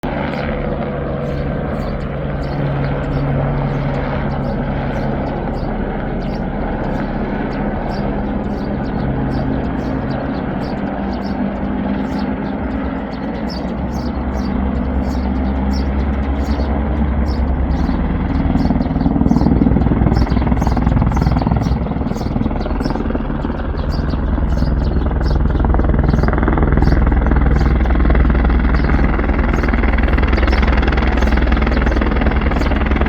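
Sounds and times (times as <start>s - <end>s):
aircraft engines and propellers: 0.0s - 33.0s.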